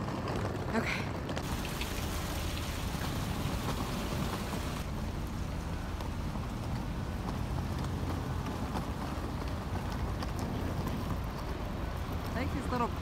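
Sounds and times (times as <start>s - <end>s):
rain on wet street: 0.0s - 13.0s.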